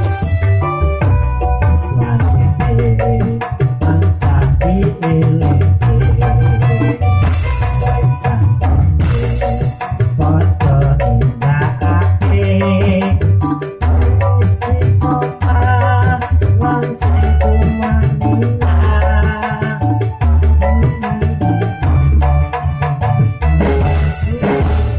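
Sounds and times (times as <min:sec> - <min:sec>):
loud electronic music with heavy bass: 0:00.0 - 0:24.9.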